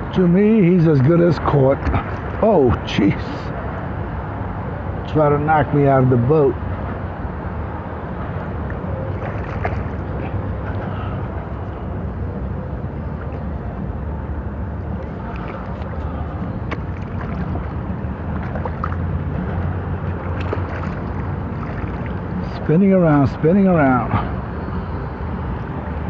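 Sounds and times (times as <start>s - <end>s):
water rushing around kayak: 0.0s - 5.0s, 6.6s - 26.0s
wind: 0.0s - 26.0s.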